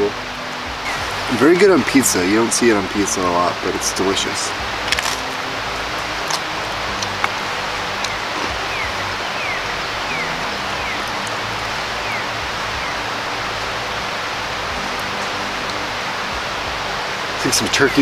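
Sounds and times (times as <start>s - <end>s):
faint low background music: 0.0s - 18.0s
steady rushing outdoor noise: 0.0s - 18.0s.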